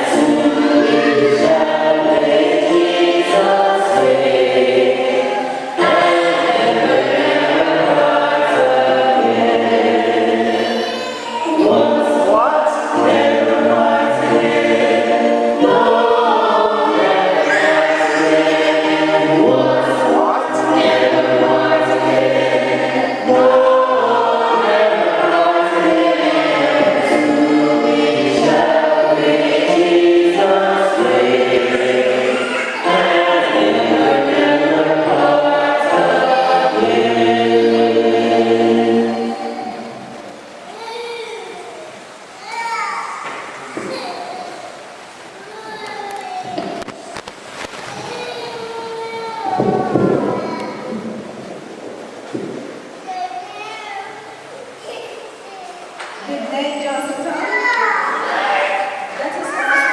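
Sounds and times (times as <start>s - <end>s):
choir singing a gospel hymn: 0.0s - 40.7s, 49.5s - 53.0s, 56.0s - 59.9s.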